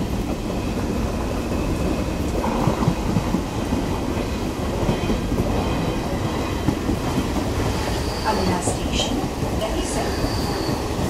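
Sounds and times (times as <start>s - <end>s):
passing train on next track: 0.0s - 11.0s
train wheels rumbling on rails: 0.0s - 11.0s.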